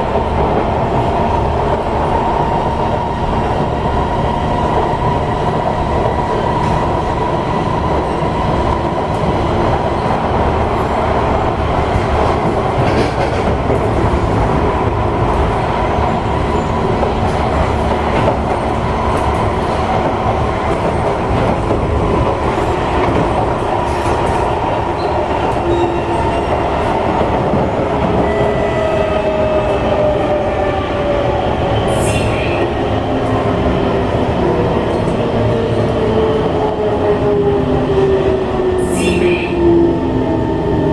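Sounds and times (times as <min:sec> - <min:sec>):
train wheels on track: 0:00.0 - 0:40.9.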